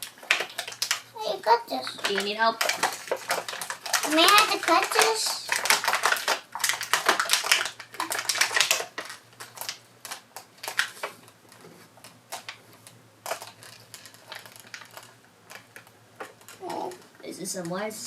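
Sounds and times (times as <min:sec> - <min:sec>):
packaging crinkling and clicking: 0:00.0 - 0:17.2.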